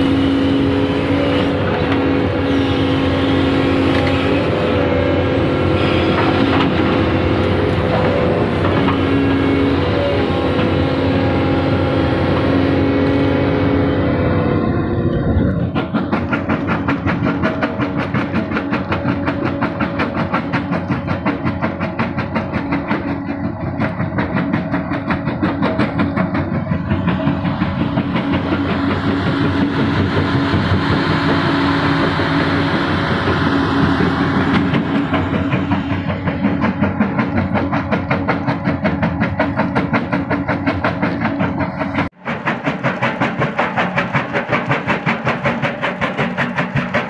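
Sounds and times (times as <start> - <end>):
excavator engine and hydraulics drone: 0.0 - 47.0.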